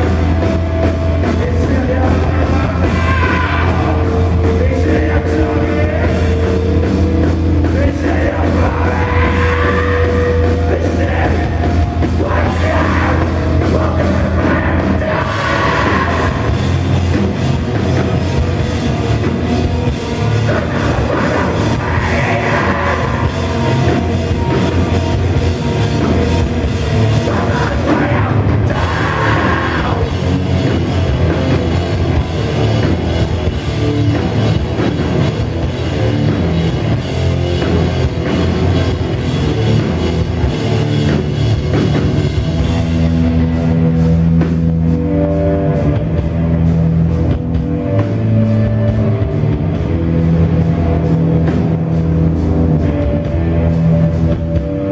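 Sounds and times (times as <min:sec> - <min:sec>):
live heavy rock band playing: 0:00.0 - 0:54.9.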